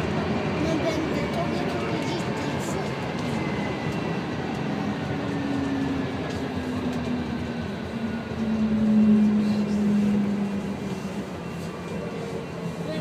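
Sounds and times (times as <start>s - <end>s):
tram rolling noise: 0.0s - 13.0s.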